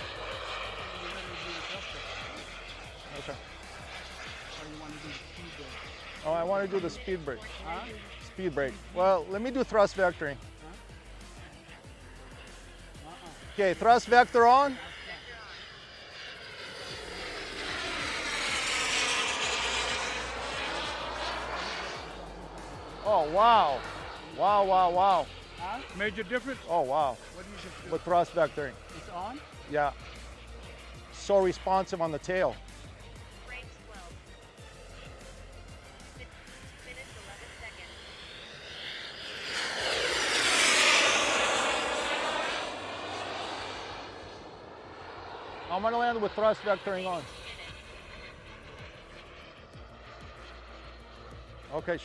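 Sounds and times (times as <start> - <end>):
model jet turbines whining: 0.0 - 52.0.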